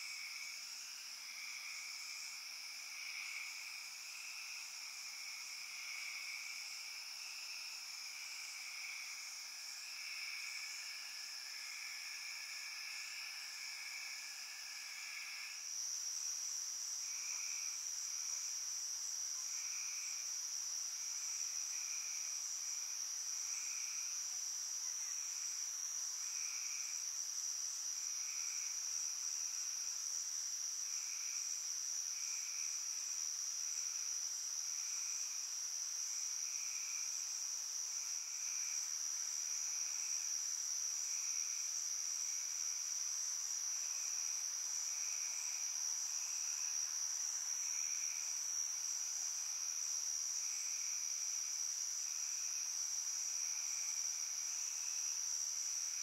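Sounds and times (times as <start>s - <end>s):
lower pulsing insect call: 0.0s - 56.0s.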